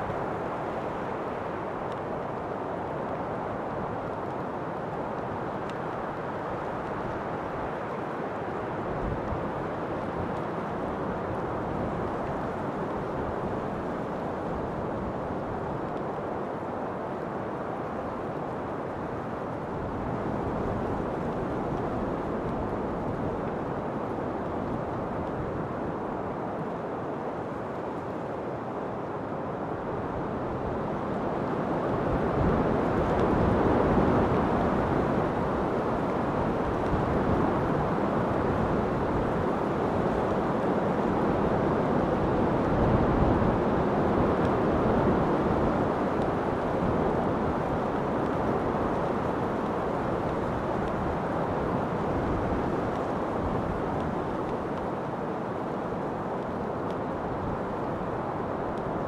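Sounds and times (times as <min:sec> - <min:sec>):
rushing wind: 0:00.0 - 0:59.0.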